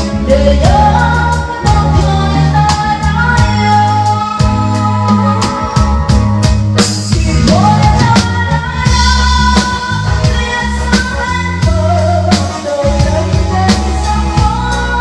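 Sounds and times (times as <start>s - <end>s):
bass guitar: 0.0s - 15.0s
drum kit steady beat: 0.0s - 15.0s
person singing melody: 0.0s - 15.0s.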